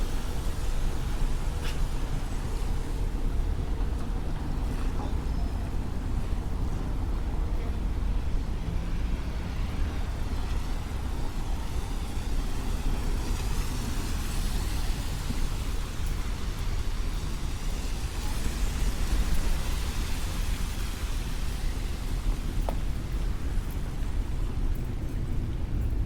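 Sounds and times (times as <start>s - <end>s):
tyre hiss on wet road: 0.0s - 7.0s, 7.6s - 25.2s
traffic rumble on wet road: 0.0s - 26.0s.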